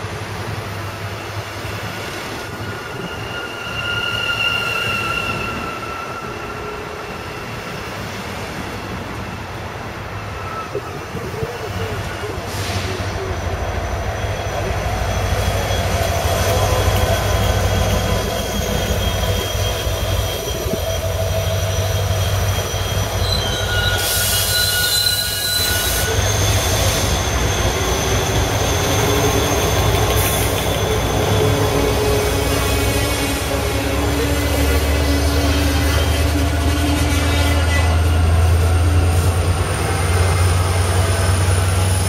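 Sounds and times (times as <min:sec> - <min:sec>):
train rumbling on rails: 0:00.0 - 0:42.0
high squeal with hiss: 0:01.0 - 0:08.9, 0:10.1 - 0:42.0.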